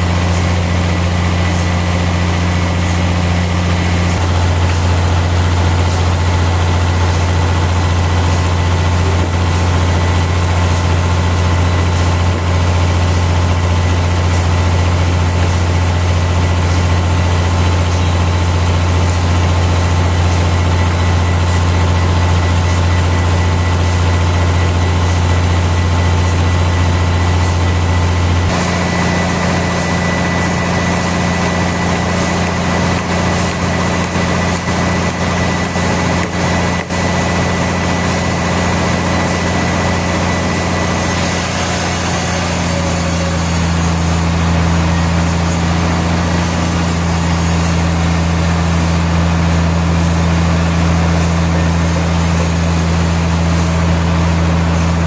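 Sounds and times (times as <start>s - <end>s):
high steady whine: 0.0s - 55.0s
sawmill machinery drone: 0.0s - 55.0s.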